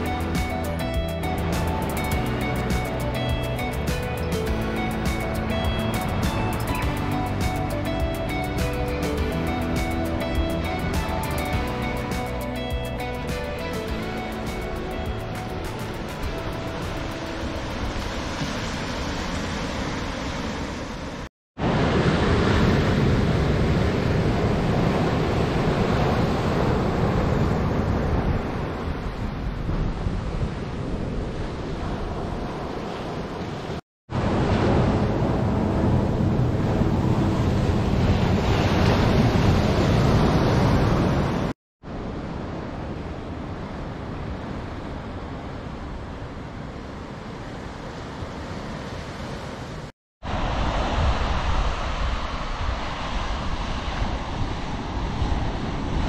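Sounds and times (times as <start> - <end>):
ocean surf on beach: 0.0 - 56.0
wind: 0.0 - 56.0.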